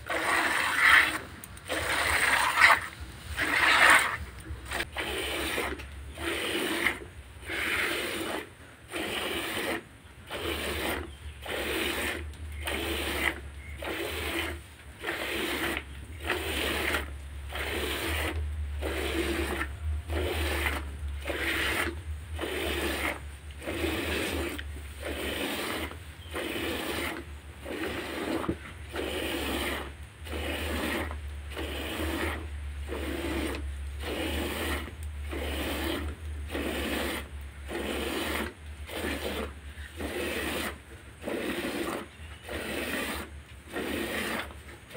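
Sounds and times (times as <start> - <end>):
milk squirting into bucket: 0.0 - 44.9.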